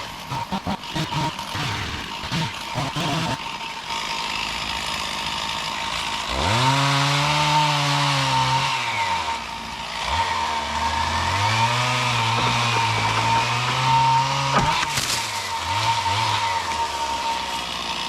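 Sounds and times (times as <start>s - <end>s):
chainsaw cutting a limb: 0.0s - 18.0s.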